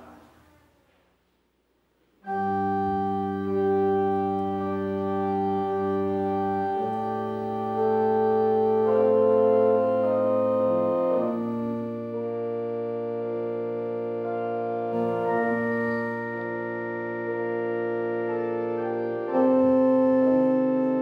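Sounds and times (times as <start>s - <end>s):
organ playing held chords: 2.2s - 21.0s.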